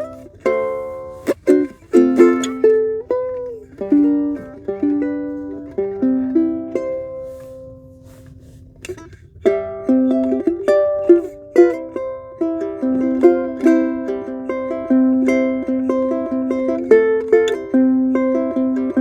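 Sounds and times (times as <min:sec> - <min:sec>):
ukulele played fingerstyle: 0:00.0 - 0:19.0.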